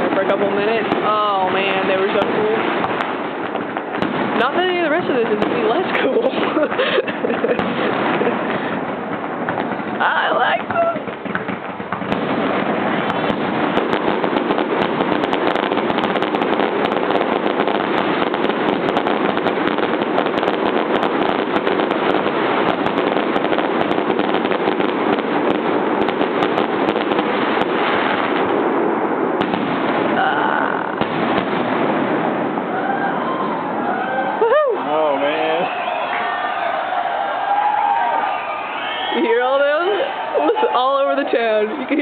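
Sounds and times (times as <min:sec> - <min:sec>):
fireworks cracking and banging: 0:00.0 - 0:42.0
steady fireworks rumble: 0:00.0 - 0:42.0.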